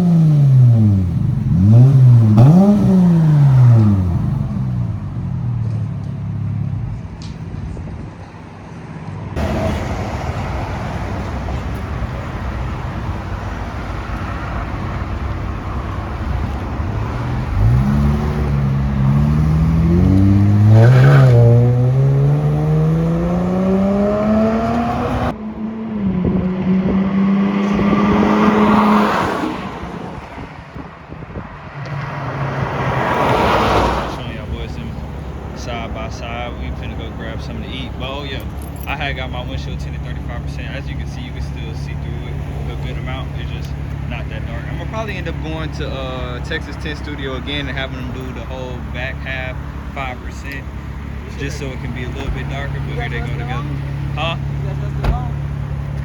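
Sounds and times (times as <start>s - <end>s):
vehicle exhaust accelerating: 0.0s - 8.4s, 9.3s - 56.0s.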